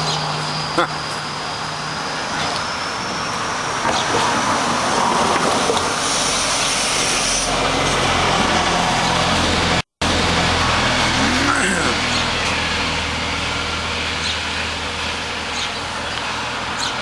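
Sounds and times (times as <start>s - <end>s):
outdoor noise: 0.0s - 17.0s
vehicle engine humming: 0.0s - 17.0s.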